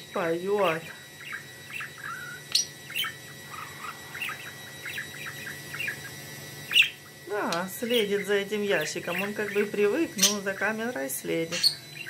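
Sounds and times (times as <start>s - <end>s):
budgerigar warbling song: 0.5s - 7.1s, 7.8s - 10.7s, 11.5s - 12.0s.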